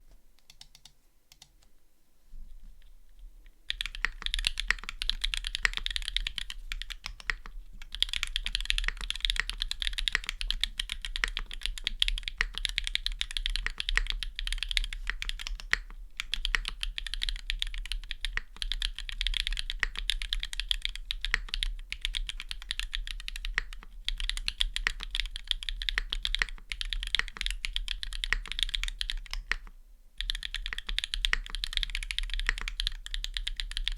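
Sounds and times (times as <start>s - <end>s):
fast mechanical keyboard typing: 3.7s - 33.9s.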